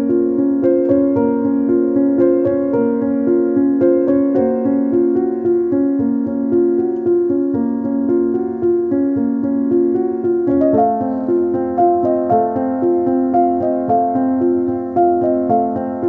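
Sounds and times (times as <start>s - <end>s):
instrumental music with held notes: 0.0s - 16.0s.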